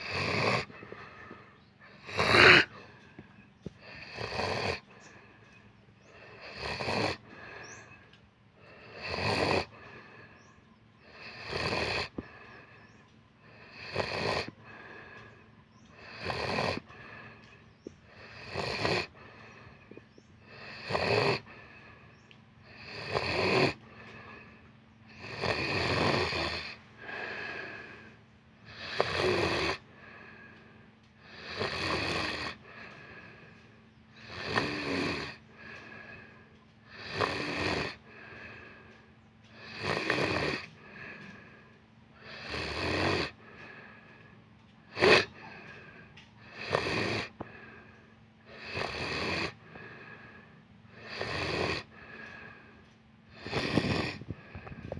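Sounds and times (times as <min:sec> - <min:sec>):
person snoring raspily: 0:00.0 - 0:54.9.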